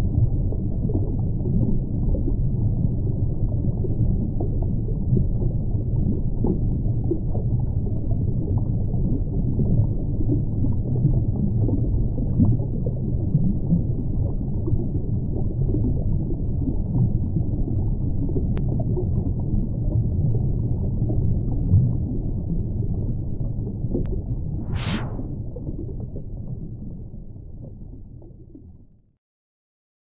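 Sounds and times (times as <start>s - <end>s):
muffled underwater rumble: 0.0s - 29.1s.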